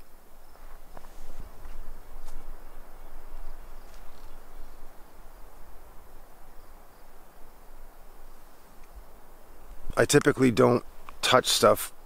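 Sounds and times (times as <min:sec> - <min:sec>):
faint insects: 0:00.0 - 0:12.0.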